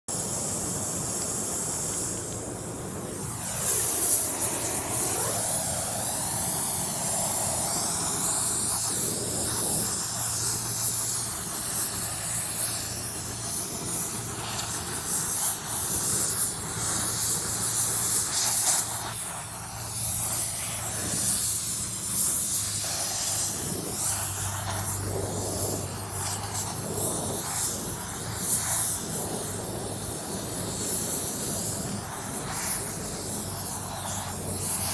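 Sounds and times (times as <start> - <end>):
torch flame hissing: 0.1 - 34.9.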